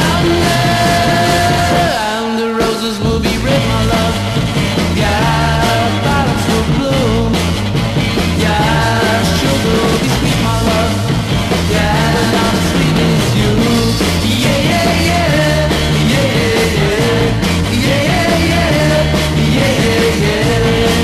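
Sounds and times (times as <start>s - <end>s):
garage rock band playing: 0.0s - 21.0s.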